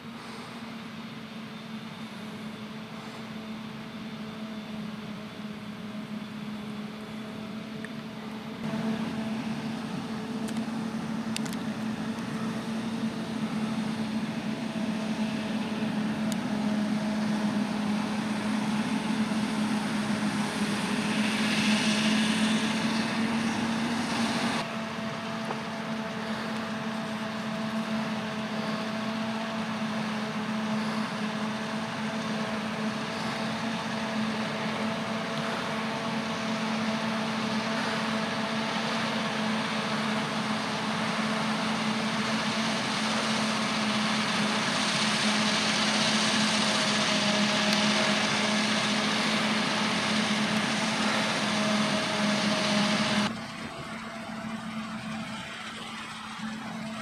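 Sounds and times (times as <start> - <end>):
forage harvester engine humming: 0.0 - 57.0
tractor engines: 0.0 - 57.0.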